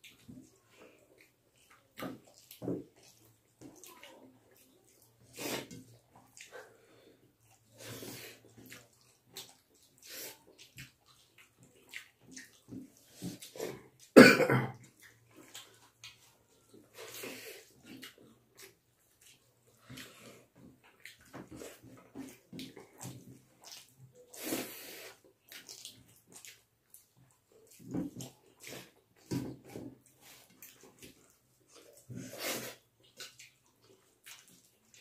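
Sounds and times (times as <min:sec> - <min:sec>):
wet chewing and mouth smacks: 0:00.0 - 0:14.2, 0:14.8 - 0:35.0.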